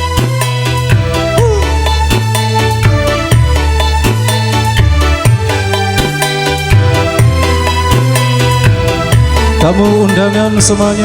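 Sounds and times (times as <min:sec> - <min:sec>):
held notes over a bass: 0:00.0 - 0:11.0.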